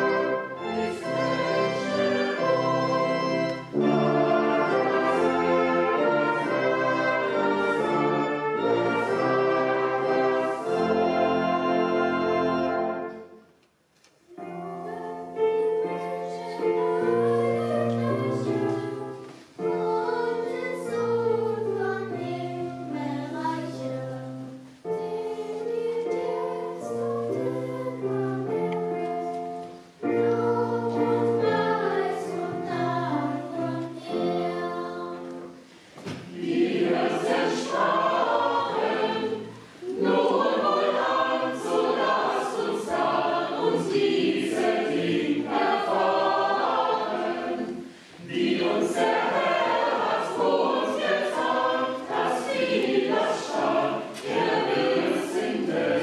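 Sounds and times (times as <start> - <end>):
choir singing: 0.0 - 13.5, 14.4 - 56.0.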